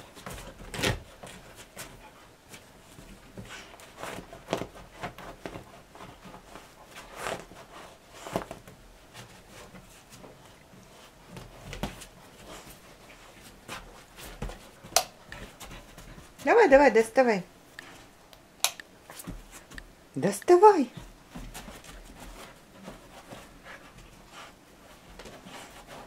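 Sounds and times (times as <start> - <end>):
puppy scratching bedspread: 0.0 - 18.1, 19.0 - 19.8, 20.6 - 26.0.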